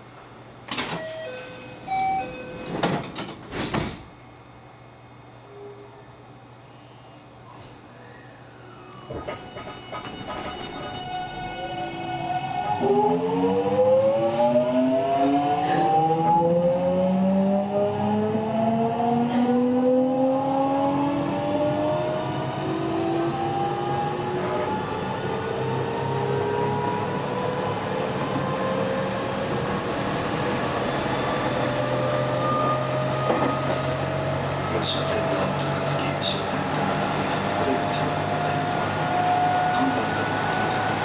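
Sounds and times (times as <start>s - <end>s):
train inverter whine rising: 6.8s - 41.0s.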